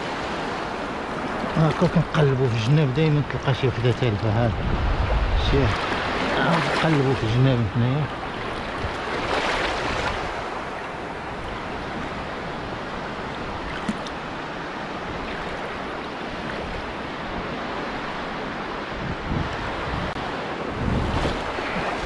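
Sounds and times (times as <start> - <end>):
shallow surf rushing over sand: 0.0 - 22.0.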